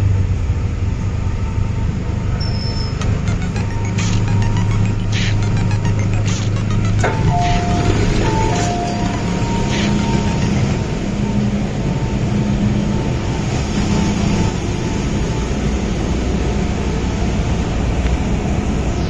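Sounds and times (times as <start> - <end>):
train rumbling to a stop: 0.0 - 19.0
traction motor whine: 1.0 - 19.0.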